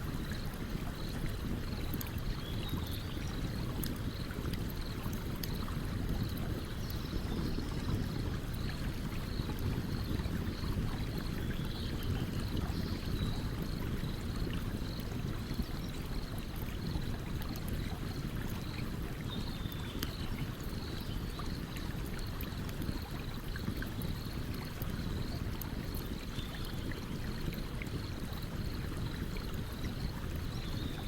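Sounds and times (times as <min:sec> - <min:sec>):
stream running: 0:00.0 - 0:31.0.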